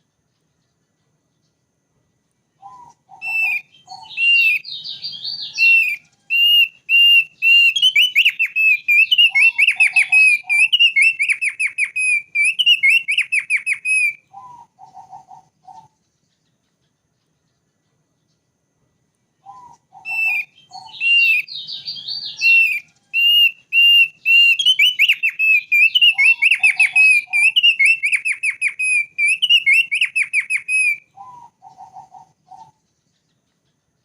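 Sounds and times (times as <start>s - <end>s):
bird singing whistled notes: 2.5s - 18.5s, 19.4s - 34.0s.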